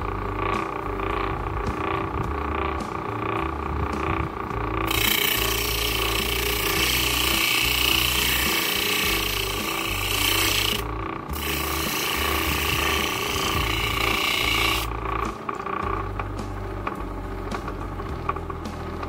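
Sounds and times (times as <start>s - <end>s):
knife grinding on wheel: 0.0s - 17.0s
motor humming: 0.0s - 19.0s.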